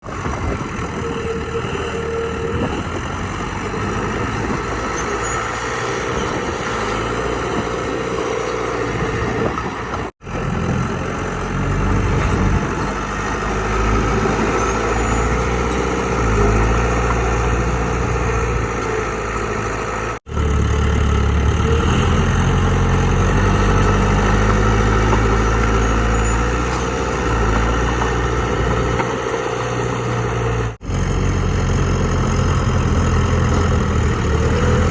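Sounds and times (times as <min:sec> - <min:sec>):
heavy diesel machinery engines: 0:00.0 - 0:34.9.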